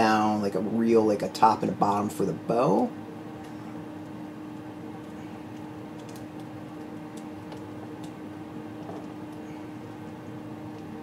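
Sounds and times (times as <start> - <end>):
steady background hum and hiss: 0.0 - 11.0.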